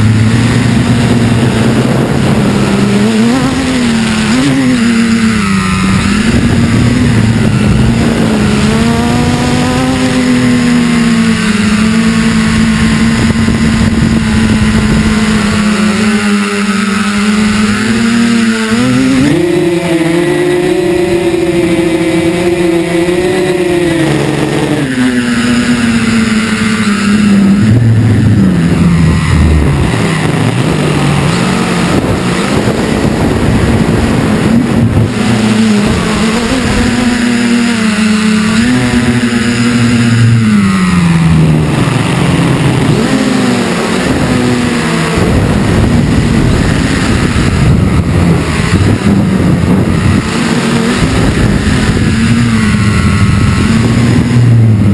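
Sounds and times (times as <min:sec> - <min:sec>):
drone propellers buzzing: 0:00.0 - 0:54.9.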